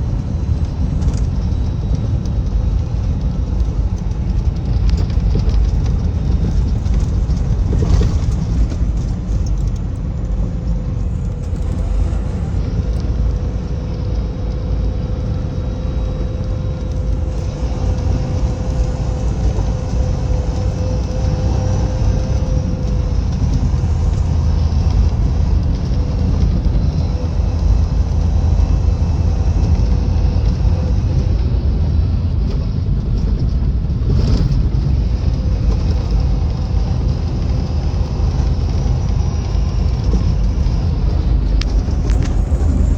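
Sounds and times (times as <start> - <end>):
car engine and tyre rumble: 0.0 - 42.9
faint held whine: 0.0 - 42.9.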